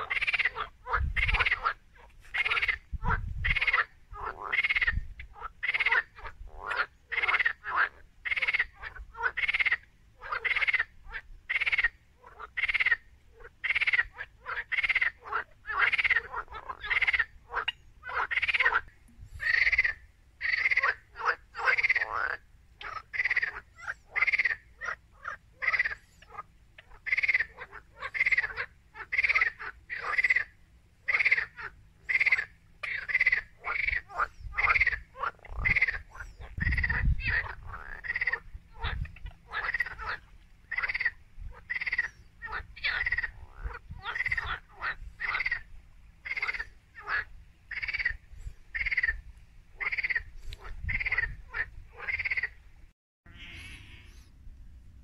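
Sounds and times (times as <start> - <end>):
frogs croaking: 0.0 - 52.6.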